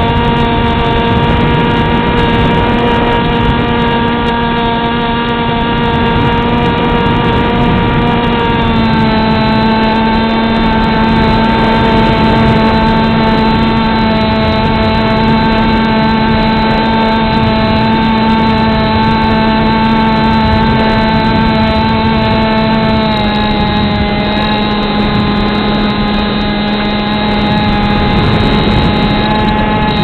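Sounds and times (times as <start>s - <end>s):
model plane motor whine: 0.0s - 30.0s
wind rushing: 0.0s - 30.0s.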